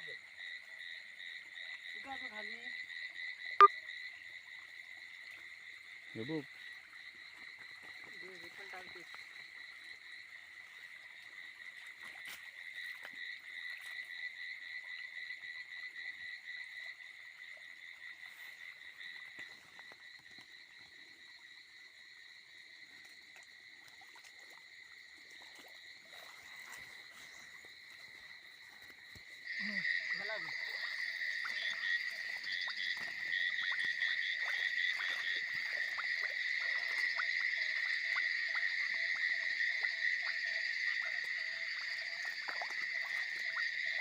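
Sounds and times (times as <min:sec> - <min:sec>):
frogs trilling: 0:00.0 - 0:44.0.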